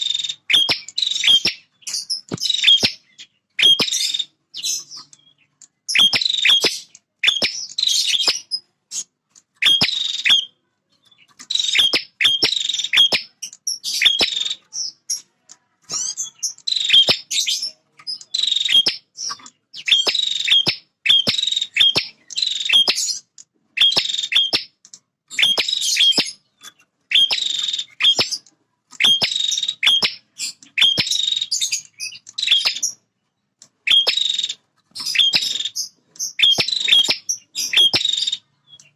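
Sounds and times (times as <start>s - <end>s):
small bird singing: 0.0s - 38.9s.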